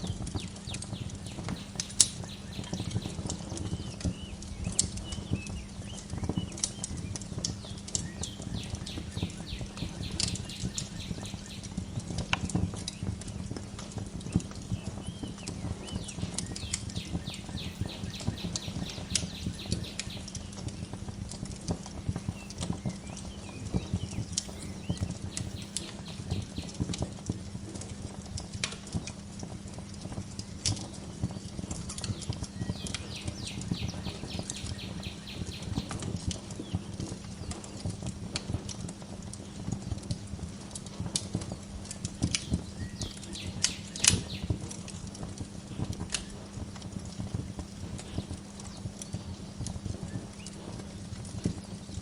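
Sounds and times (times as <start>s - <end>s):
small birds chirping: 0.0s - 40.1s, 40.7s - 52.0s
wood fire crackling: 0.0s - 52.0s.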